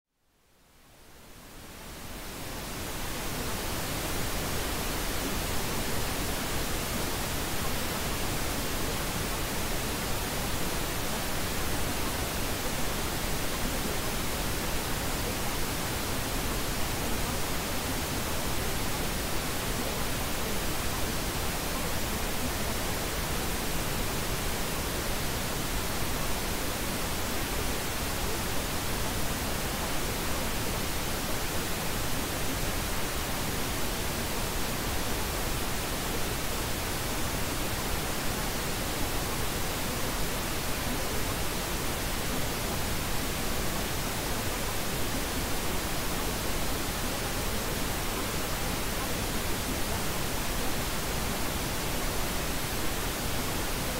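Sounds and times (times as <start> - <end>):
steady hiss of noise: 0.1 - 53.9.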